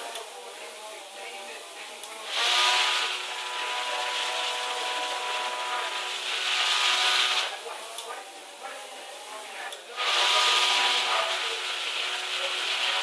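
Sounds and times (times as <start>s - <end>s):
small electric motors whining: 0.0s - 13.0s.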